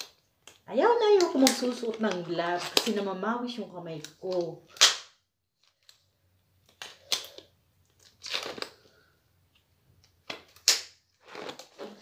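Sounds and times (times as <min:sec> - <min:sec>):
disposable gloves crinkling and snapping: 0:00.0 - 0:12.0.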